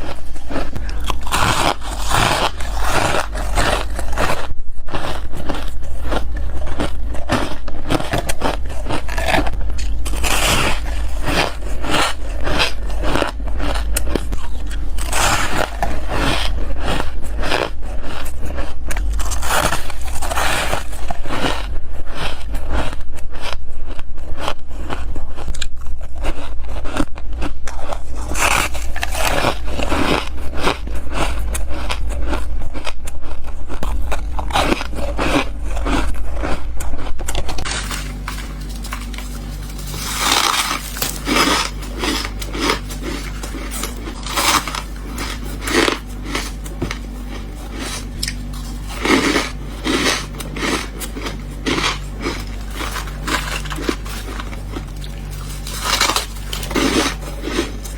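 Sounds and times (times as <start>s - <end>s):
squeaky crunchy bites into frost: 0.0s - 23.5s, 33.7s - 57.9s
low steady hum: 0.0s - 57.9s.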